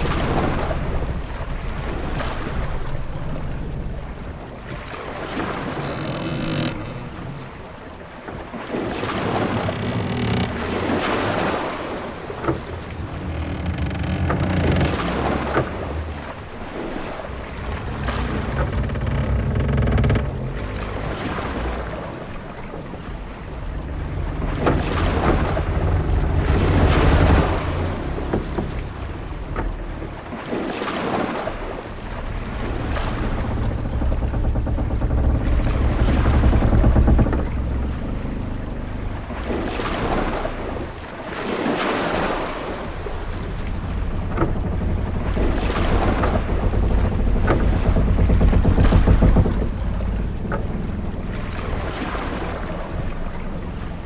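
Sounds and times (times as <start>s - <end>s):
low rumble of wind: 0.0s - 54.0s
waves washing against ship hull: 0.0s - 54.0s.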